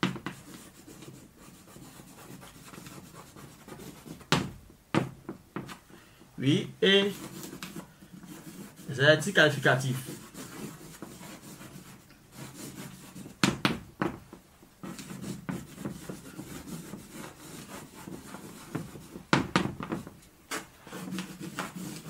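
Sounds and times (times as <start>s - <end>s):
chalk scratching on a blackboard: 0.0s - 4.4s, 7.0s - 13.5s, 14.8s - 22.0s.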